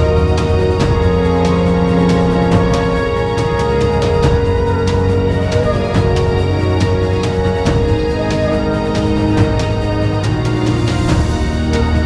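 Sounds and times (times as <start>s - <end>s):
percussive beat: 0.0s - 12.0s
sustained pitched tones: 0.0s - 12.0s.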